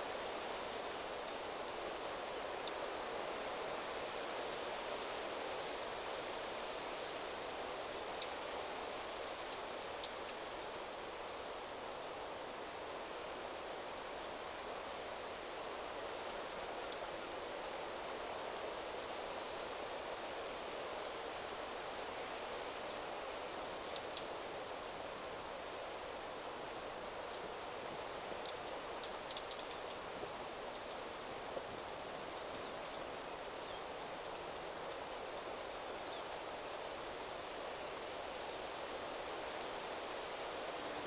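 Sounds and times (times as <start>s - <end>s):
wind rustling through trees: 0.0s - 41.0s.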